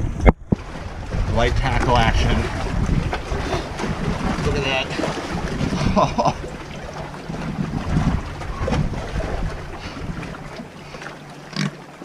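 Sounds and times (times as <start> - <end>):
wind buffeting microphone: 0.0 - 11.0
low rumbles: 0.0 - 11.6
waves washing onto beach: 0.5 - 12.0.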